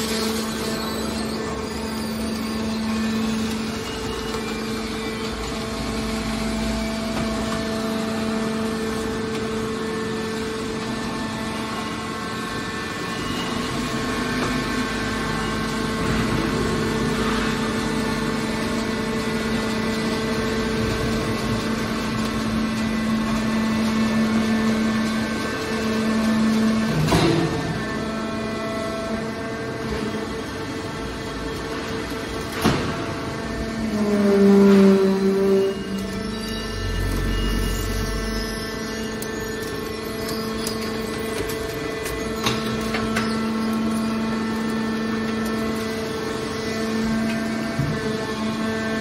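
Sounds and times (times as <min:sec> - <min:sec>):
hydraulic power unit humming: 0:00.0 - 0:49.0.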